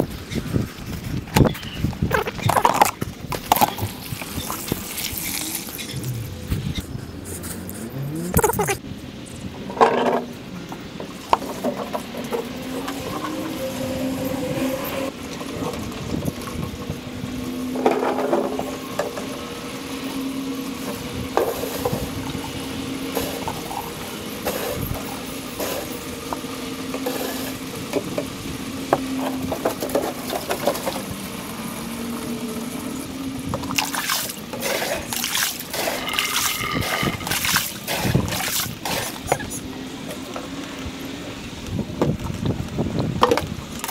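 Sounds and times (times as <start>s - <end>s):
water splashing from a hose: 0.0s - 8.8s, 9.6s - 43.9s
wavering steady hum: 0.0s - 43.9s.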